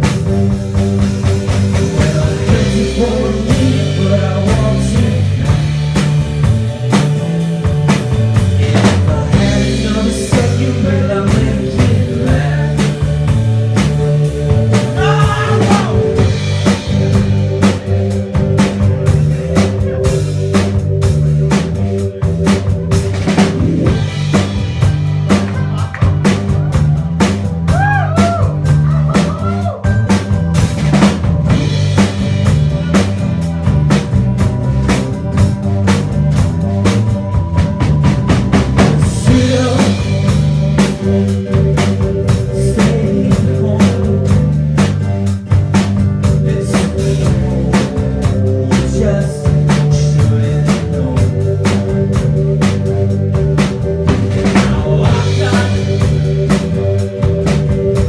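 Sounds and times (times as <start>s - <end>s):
drum kit kick and snare: 0.0s - 58.0s
rock band playing: 0.0s - 58.0s.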